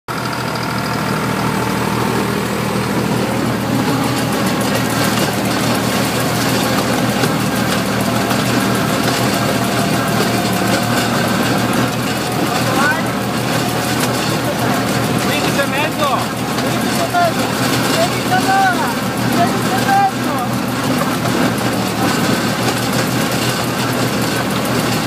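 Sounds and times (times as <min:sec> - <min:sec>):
flail mower rattling: 0:00.1 - 0:25.0
tractor engine running: 0:00.1 - 0:25.0.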